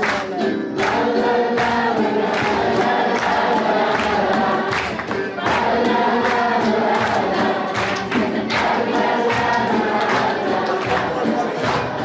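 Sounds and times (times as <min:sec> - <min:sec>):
group of voices singing: 0:00.0 - 0:12.0
steady beat: 0:00.0 - 0:12.0.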